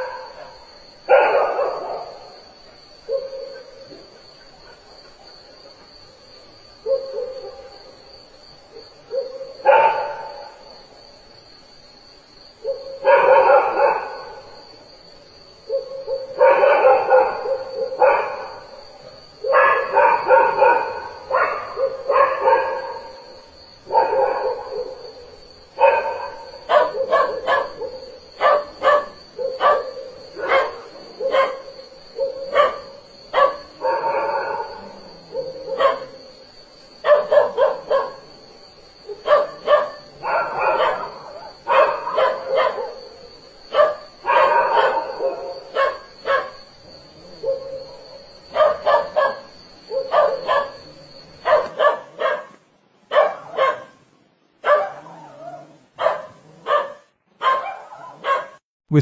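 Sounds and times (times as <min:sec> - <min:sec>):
dog barking: 0:00.0 - 0:02.4, 0:03.1 - 0:04.9, 0:06.8 - 0:07.8, 0:08.7 - 0:10.7, 0:12.6 - 0:14.6, 0:15.7 - 0:18.8, 0:19.4 - 0:36.3, 0:37.0 - 0:38.4, 0:39.0 - 0:54.0, 0:54.6 - 0:58.6.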